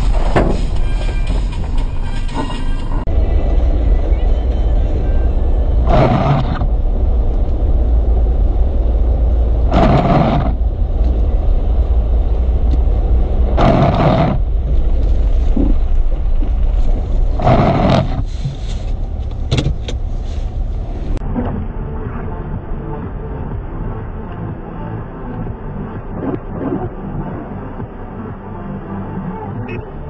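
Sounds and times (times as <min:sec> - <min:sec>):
vehicle engine low rumble: 0:00.0 - 0:30.0.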